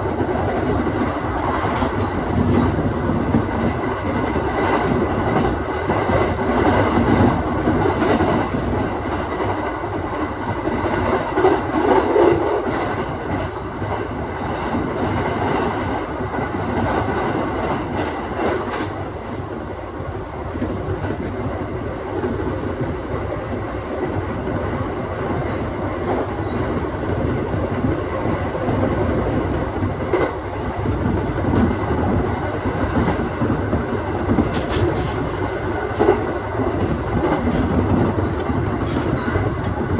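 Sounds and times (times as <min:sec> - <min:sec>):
rail joint clicks: 0:00.0 - 0:39.9
train wheels rumbling on rail: 0:00.0 - 0:39.9.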